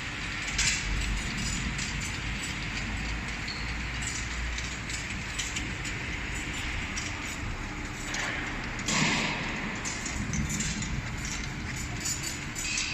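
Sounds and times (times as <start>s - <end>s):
bottle washing machine running: 0.0s - 12.9s.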